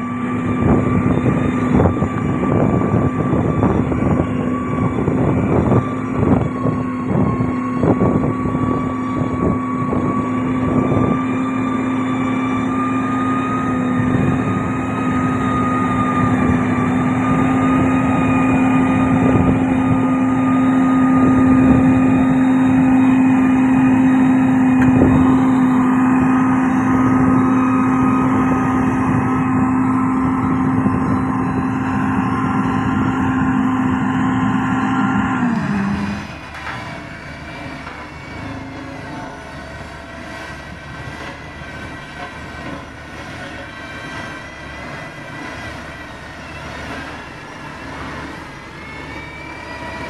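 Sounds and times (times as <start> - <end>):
diesel machine engine hum: 0.0 - 50.0.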